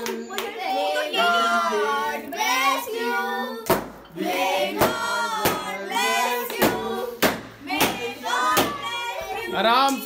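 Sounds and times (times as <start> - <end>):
voices singing: 0.0 - 10.0.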